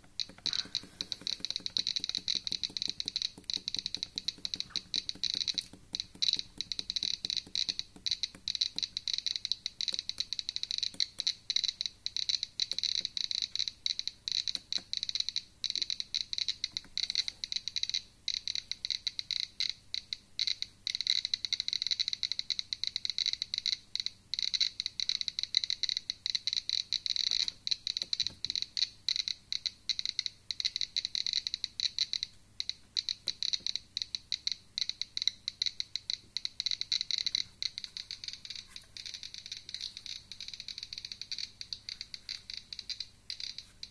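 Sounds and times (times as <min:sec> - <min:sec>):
geiger counter clicking rapidly: 0:00.0 - 0:43.9.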